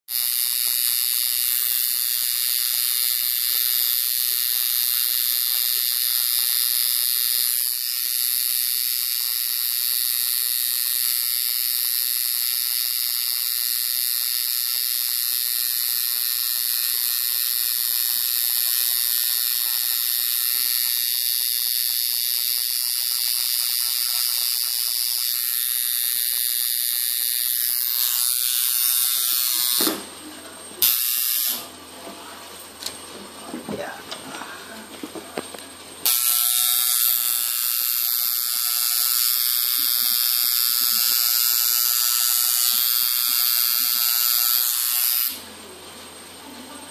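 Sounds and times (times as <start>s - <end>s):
tattoo machine buzzing: 0.1s - 31.8s, 33.8s - 46.9s.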